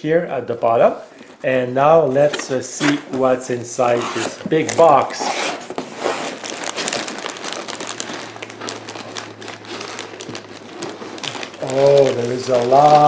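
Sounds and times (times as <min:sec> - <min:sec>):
plastic bags crinkling: 0:00.8 - 0:13.0
cardboard box opening: 0:02.2 - 0:13.0.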